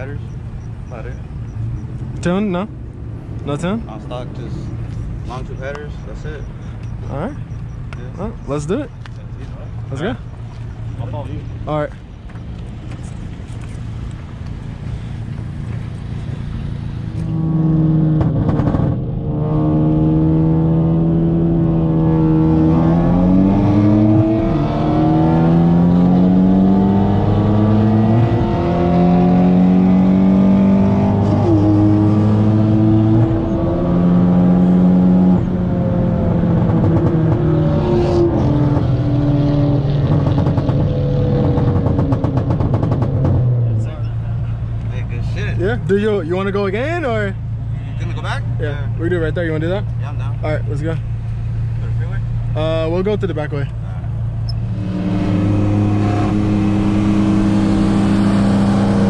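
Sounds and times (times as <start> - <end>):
turbo car engine accelerating: 0.0 - 59.0.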